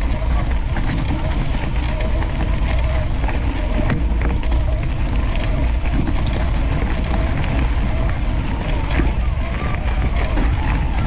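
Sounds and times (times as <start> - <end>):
bike tyres rolling on gravel: 0.0 - 11.0
loose stones crunching: 0.0 - 11.0
wind and road rumble: 0.0 - 11.0.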